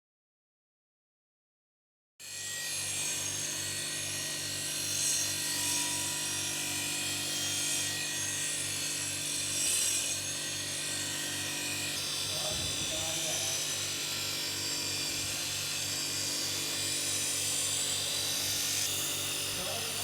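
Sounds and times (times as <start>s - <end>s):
power tool grinding metal: 2.2s - 20.0s.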